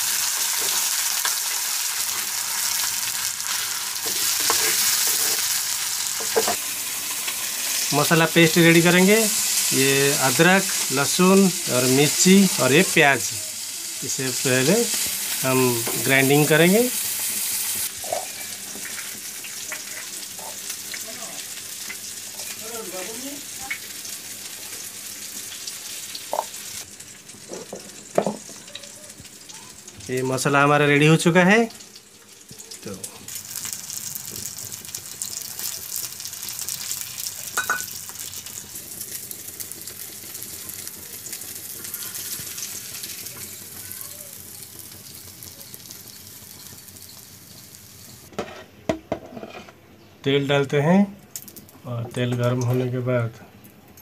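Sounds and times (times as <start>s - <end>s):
steady sizzling hiss: 0.0s - 54.0s.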